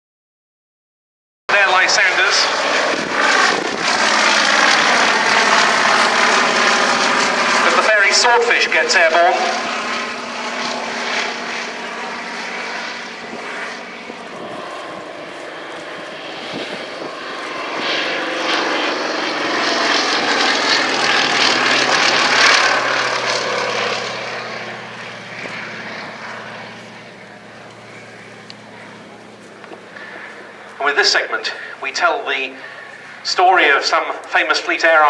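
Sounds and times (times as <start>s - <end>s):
propeller plane engine: 1.5s - 35.0s.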